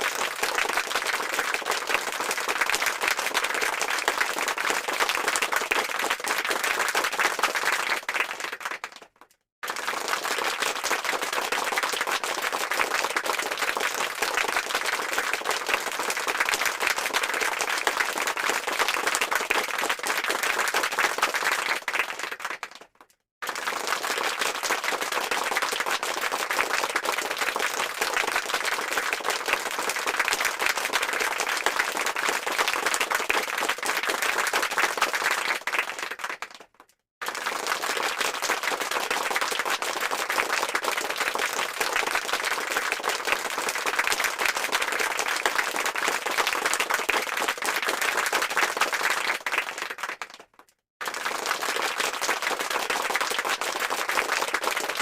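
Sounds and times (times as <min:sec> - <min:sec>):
crowd applauding: 0:00.0 - 0:55.0.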